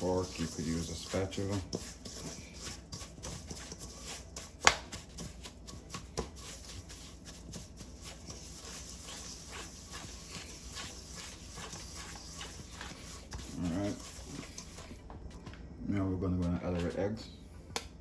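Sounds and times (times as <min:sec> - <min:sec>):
spatula scraping metal bowl: 0:00.0 - 0:15.0.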